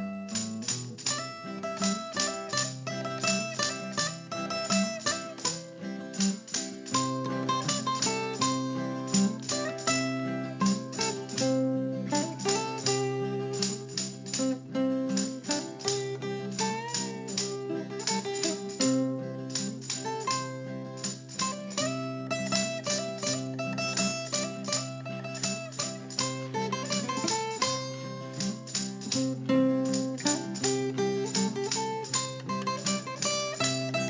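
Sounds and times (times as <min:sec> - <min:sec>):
plucked strings with bass line: 0:00.0 - 0:34.0.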